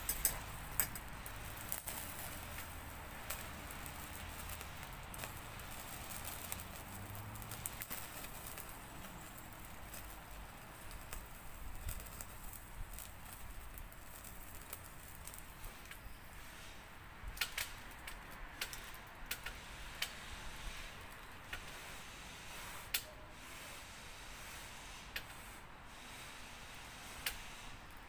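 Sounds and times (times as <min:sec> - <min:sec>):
wood burning in camp stove: 0:00.0 - 0:28.0.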